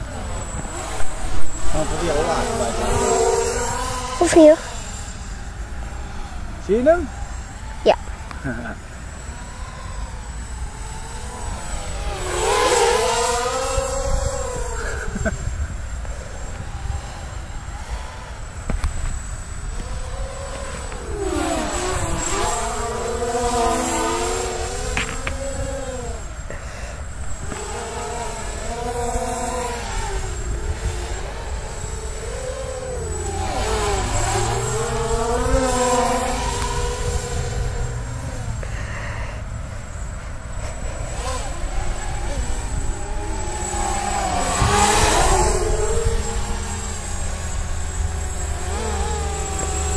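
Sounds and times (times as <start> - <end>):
drone motors whining: 0.0 - 49.9.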